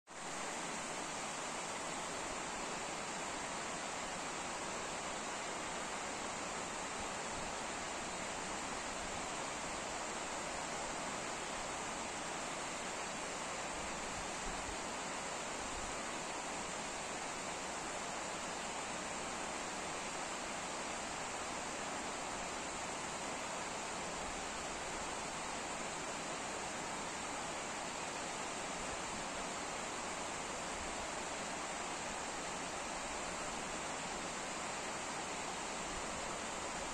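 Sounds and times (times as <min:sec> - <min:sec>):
water rushing at a dam: 0:00.1 - 0:36.9.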